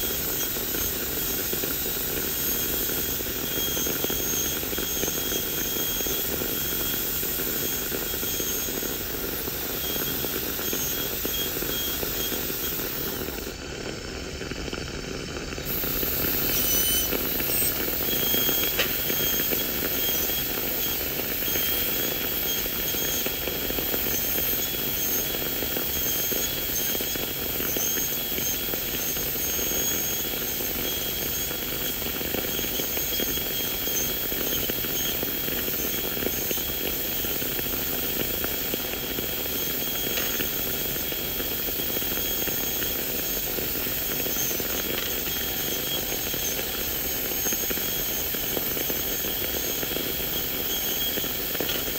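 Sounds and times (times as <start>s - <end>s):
dental drill whining: 0.0s - 13.5s, 15.6s - 38.5s, 39.4s - 51.9s.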